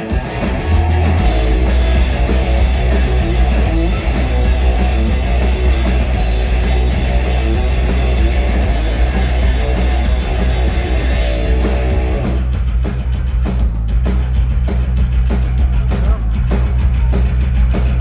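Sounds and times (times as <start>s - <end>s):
bass guitar: 0.0s - 18.0s
distorted electric guitars: 0.0s - 18.0s
drum kit: 0.0s - 18.0s.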